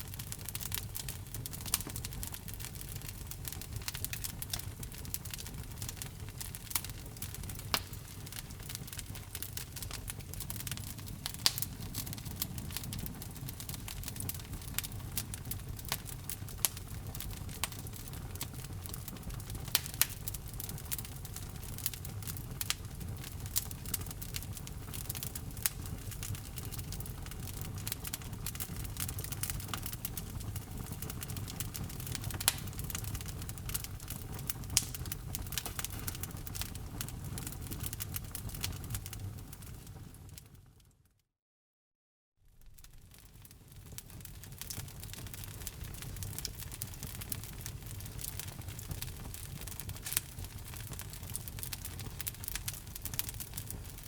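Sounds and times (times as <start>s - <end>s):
wood fire crackling and popping: 0.0s - 40.6s, 42.6s - 54.0s.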